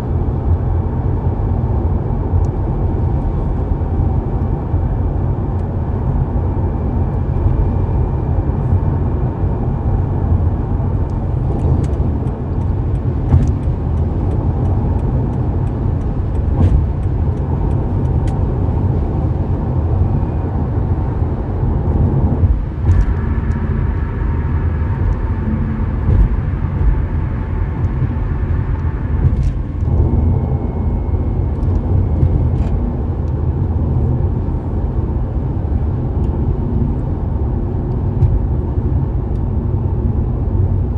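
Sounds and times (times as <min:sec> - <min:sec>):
car tyres and engine rumble: 0:00.0 - 0:40.9.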